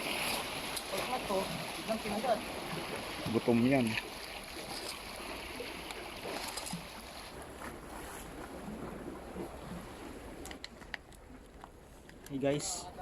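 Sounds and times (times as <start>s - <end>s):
sea waves: 0.0s - 13.0s.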